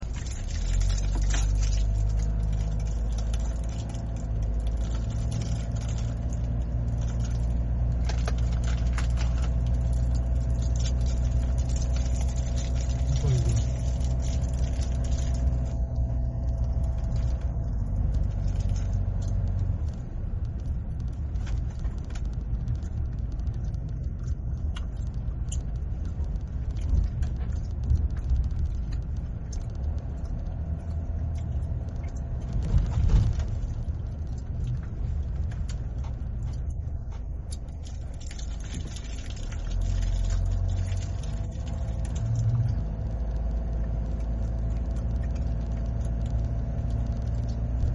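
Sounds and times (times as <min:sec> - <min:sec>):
car engine and tyres rumbling: 0:00.0 - 0:47.9
small rattles and clicks: 0:00.0 - 0:47.9.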